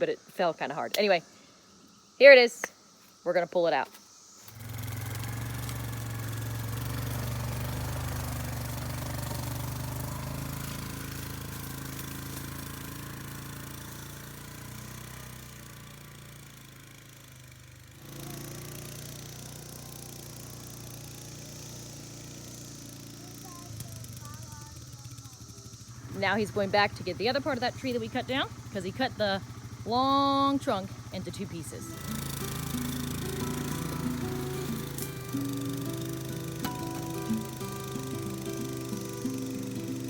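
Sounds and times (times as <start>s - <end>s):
vehicle engine running: 4.5s - 40.0s.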